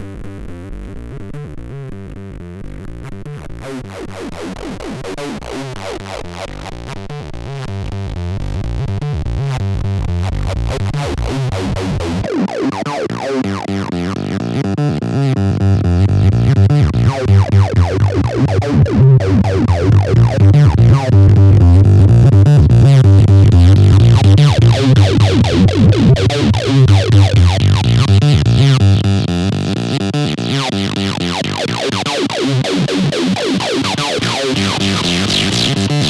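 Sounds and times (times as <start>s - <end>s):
distorted synth bass sequence: 0.3s - 36.0s.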